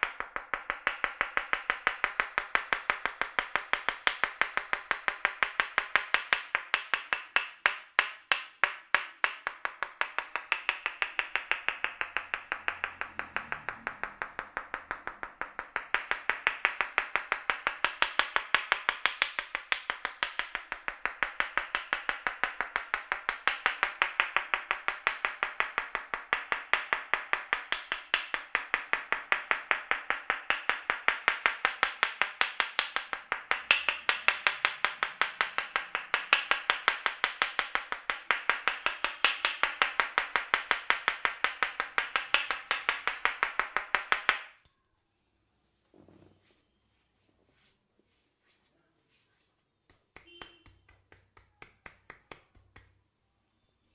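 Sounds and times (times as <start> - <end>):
percussive massage taps: 0.0 - 44.7, 49.8 - 53.0.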